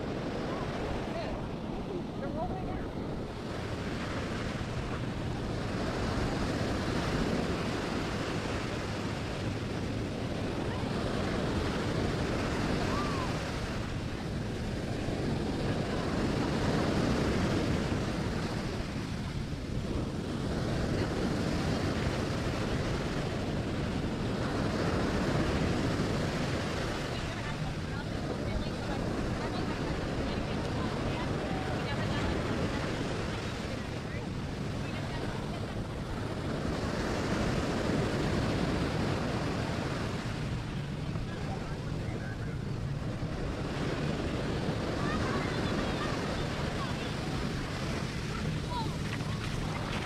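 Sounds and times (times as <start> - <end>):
ocean surf breaking on beach: 0.0 - 50.0
wind buffeting microphone: 0.0 - 50.0.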